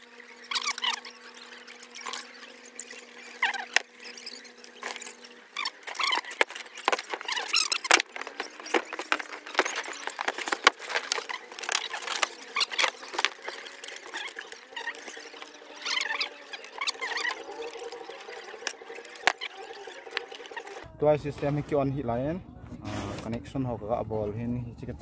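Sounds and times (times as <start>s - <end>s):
cable connectors clicking and squeaking: 0.0s - 20.8s.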